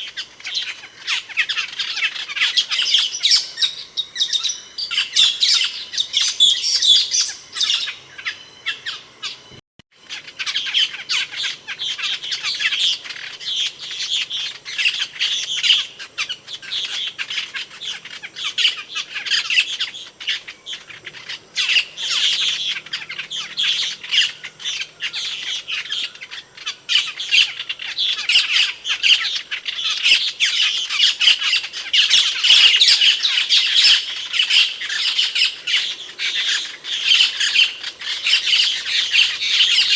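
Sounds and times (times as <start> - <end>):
starling chattering calls: 0.0 - 39.9.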